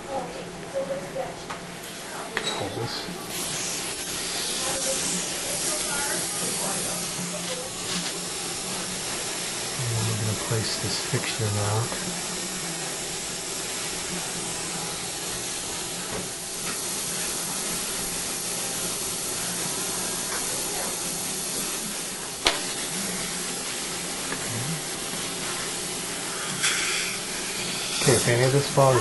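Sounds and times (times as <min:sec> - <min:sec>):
steady airy hiss: 0:01.9 - 0:29.0.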